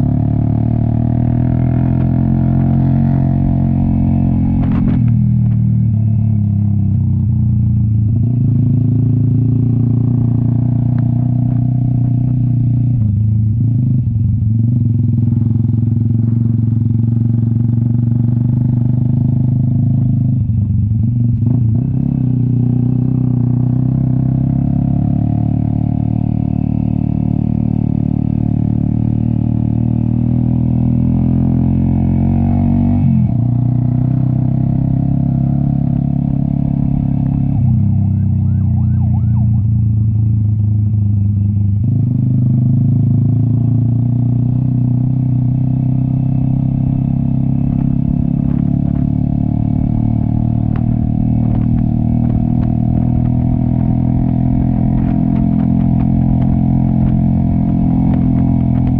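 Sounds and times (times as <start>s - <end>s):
motorcycle exhaust under load: 0.0s - 24.2s, 32.3s - 58.9s.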